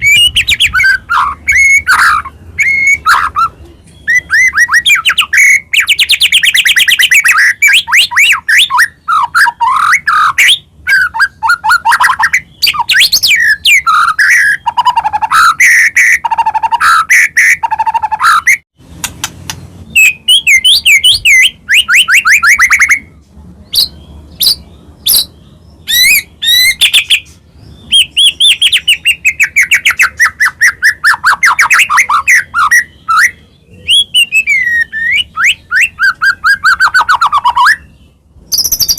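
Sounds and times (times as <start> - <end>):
bird singing trills and whistles: 0.0 - 18.6, 19.5 - 23.1, 23.7 - 38.9.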